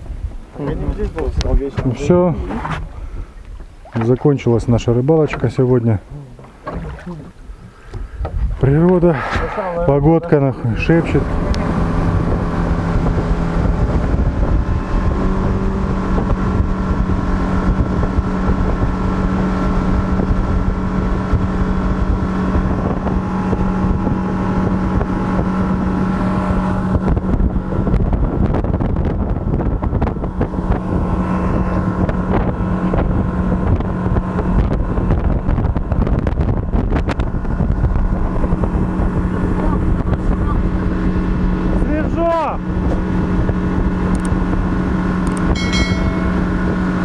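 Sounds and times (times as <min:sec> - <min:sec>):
wind noise on microphone: 0:00.0 - 0:04.1, 0:06.4 - 0:47.0
outboard motor running: 0:00.0 - 0:47.0.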